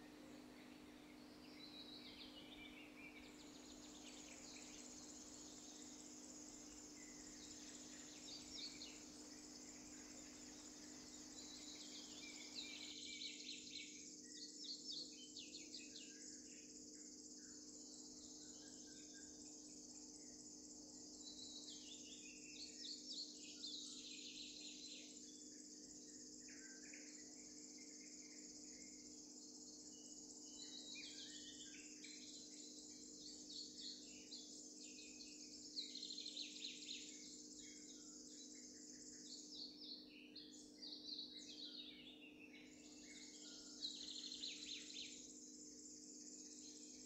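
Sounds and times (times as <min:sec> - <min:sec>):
songbirds singing: 0:00.0 - 0:47.0
steady high-pitched hiss: 0:00.0 - 0:47.0.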